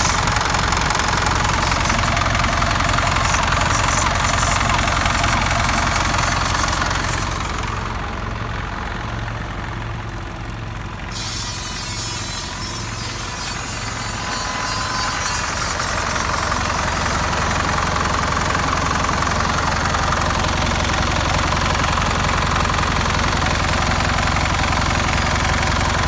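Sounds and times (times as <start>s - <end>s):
diesel engine idling: 0.0s - 11.2s, 15.8s - 26.0s.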